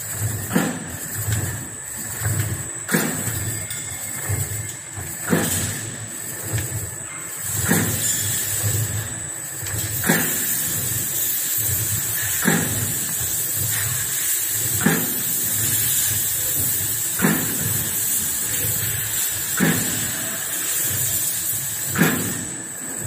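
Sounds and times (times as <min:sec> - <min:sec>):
machine line whining and pulsing: 0:00.0 - 0:23.0
sharp machine knock: 0:00.1 - 0:22.6.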